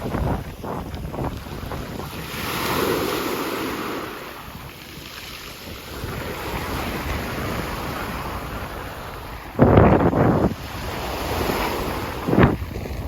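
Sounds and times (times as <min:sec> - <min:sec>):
sea waves washing on shore: 0:00.0 - 0:13.0
wind on microphone: 0:00.0 - 0:13.0.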